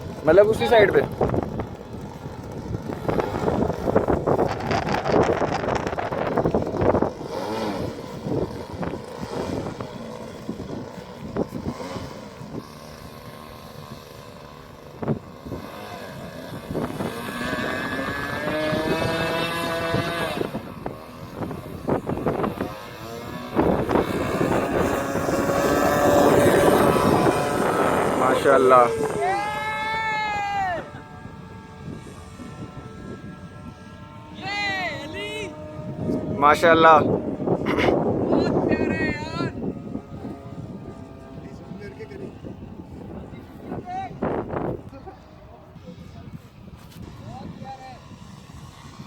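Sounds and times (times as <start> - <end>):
model aircraft motor whining: 0.0 - 49.0
wind buffeting microphone: 0.0 - 49.0.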